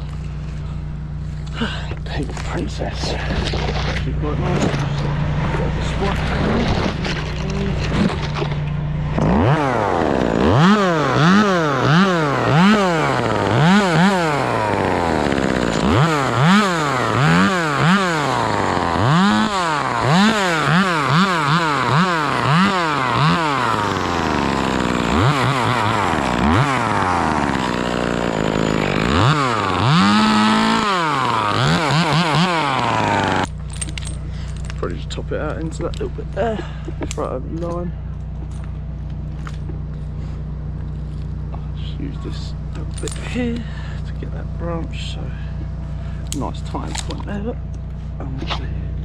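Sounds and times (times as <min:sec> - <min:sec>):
chainsaw engine revving: 0:01.5 - 0:37.8, 0:41.4 - 0:49.0.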